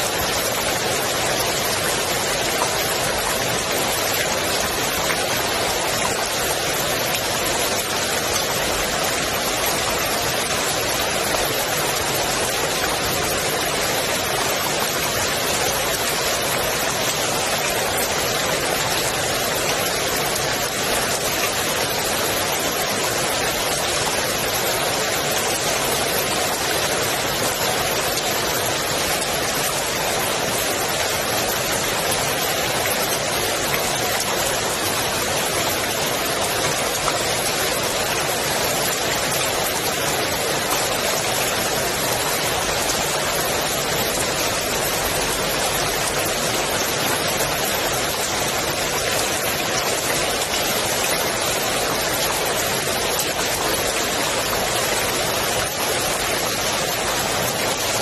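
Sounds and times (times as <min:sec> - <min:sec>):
rain falling on pool water: 0:00.0 - 0:58.0.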